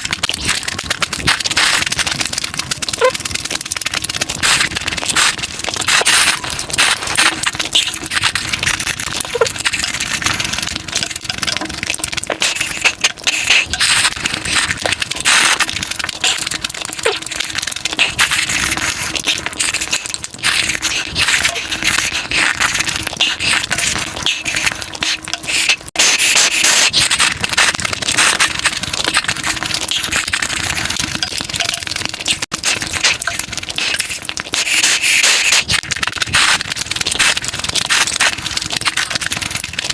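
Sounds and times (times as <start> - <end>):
food crunching and chewing: 0.0 - 39.9.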